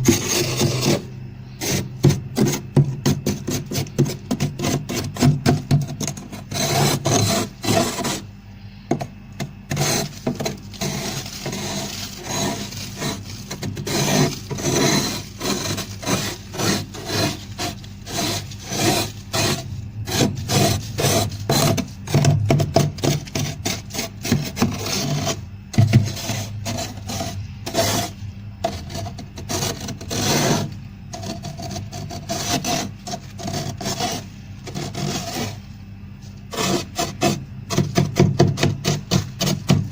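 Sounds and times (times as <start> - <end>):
frost being scraped: 0.0 - 8.3, 9.4 - 39.9.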